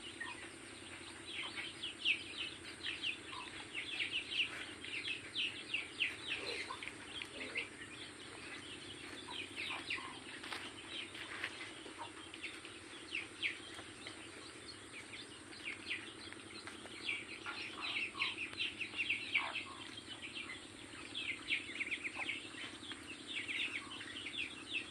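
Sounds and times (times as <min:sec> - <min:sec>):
birds chirping: 0:00.0 - 0:24.9
low hum: 0:00.0 - 0:24.9.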